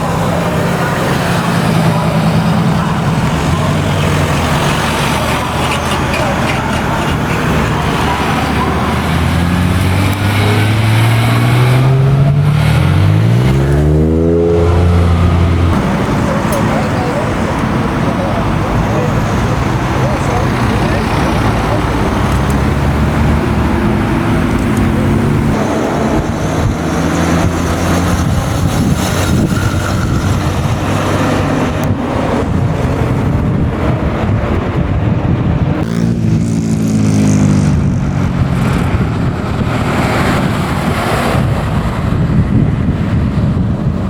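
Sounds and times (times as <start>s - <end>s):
car engine revving: 0.0s - 44.0s
car engines running: 0.0s - 44.0s.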